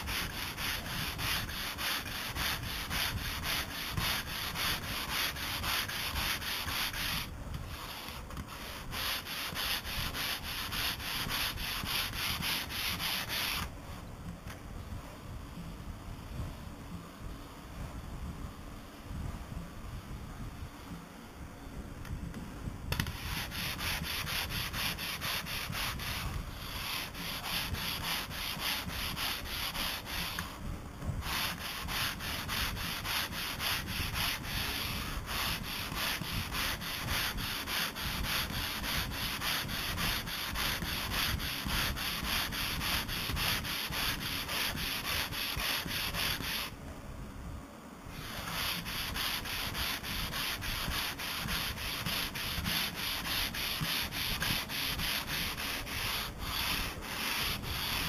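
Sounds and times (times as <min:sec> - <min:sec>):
sandpaper rasping on hull: 0:00.0 - 0:13.7, 0:23.0 - 0:30.6, 0:31.2 - 0:46.8, 0:48.1 - 0:58.0.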